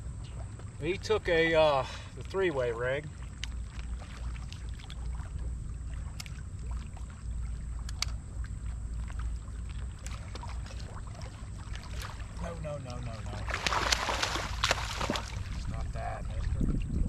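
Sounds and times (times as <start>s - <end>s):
fish splashing in shallow water: 0.0s - 17.0s
steady low rumble: 0.0s - 17.0s.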